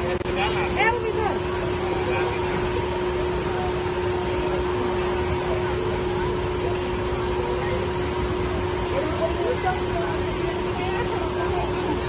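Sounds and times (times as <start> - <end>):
faint voices: 0.0 - 12.0
machine hum: 0.0 - 12.0.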